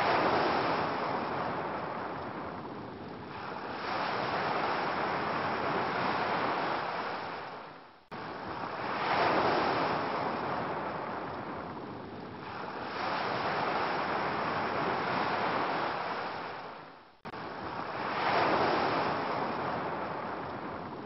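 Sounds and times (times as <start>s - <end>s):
ocean waves washing: 0.0s - 21.0s.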